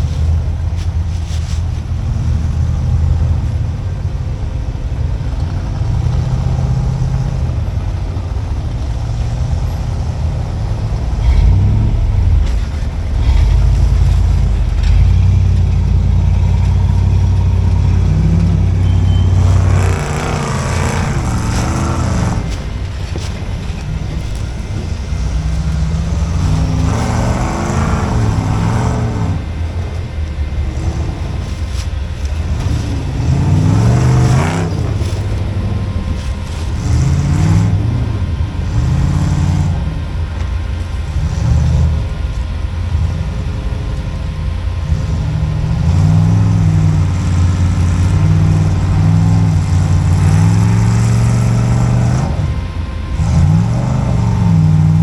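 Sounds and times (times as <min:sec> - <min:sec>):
off-road engine revving hard: 0:00.0 - 0:55.0.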